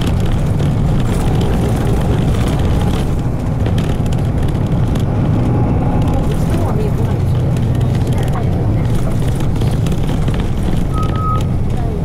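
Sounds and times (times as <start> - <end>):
bus diesel engine running: 0.0 - 12.0
road noise: 0.0 - 12.0.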